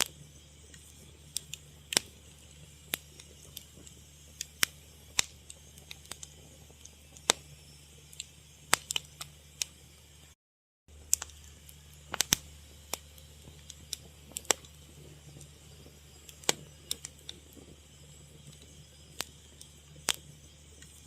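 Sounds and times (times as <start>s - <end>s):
low hum: 0.0s - 21.0s
wood fire crackling: 0.0s - 21.0s.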